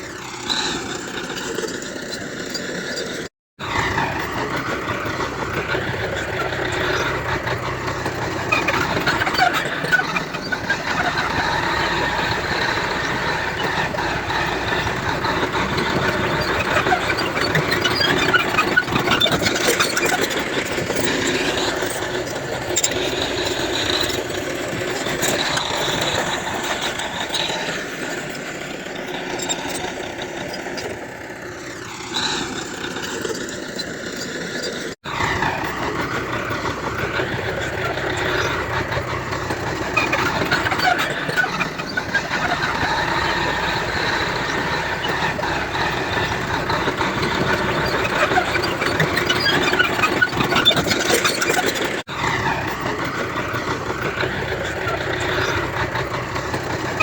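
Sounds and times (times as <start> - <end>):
diesel engines under load: 0.0 - 57.0
metallic squeaks and clicks: 0.0 - 57.0.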